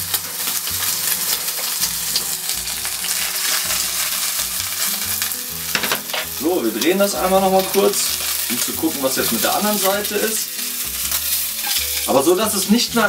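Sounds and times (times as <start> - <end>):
steak sizzling in a hot pan: 0.0 - 13.0.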